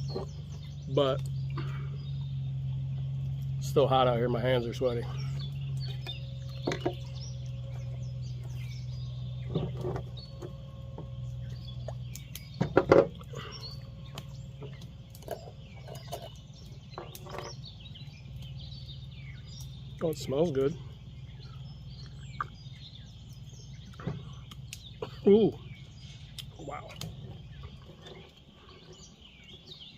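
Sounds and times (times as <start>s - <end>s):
low hum: 0.0s - 29.8s
birds chirping: 0.0s - 29.9s.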